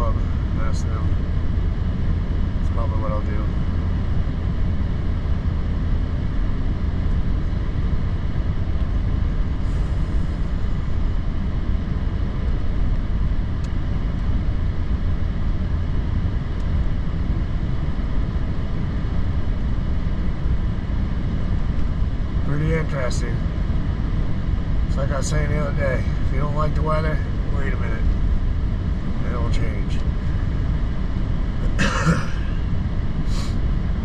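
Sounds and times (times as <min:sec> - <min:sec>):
vehicle engine rumble: 0:00.0 - 0:34.0.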